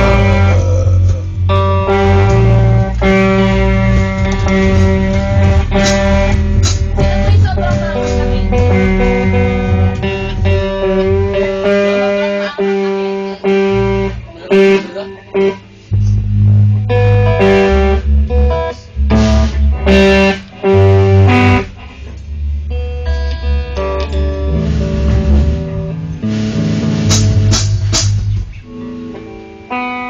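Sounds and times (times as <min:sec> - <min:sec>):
bass notes: 0:00.0 - 0:29.7
electric guitars playing: 0:00.0 - 0:30.0.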